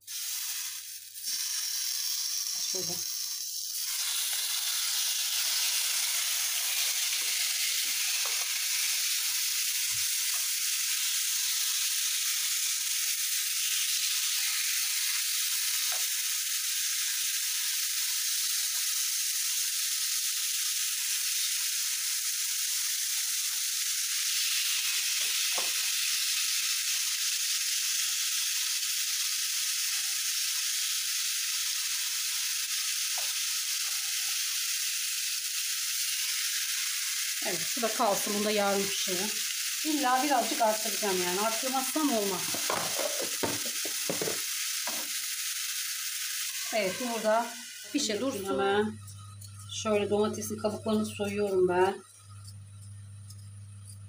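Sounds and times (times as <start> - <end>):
chicken sizzling in a pan: 0.0 - 54.0.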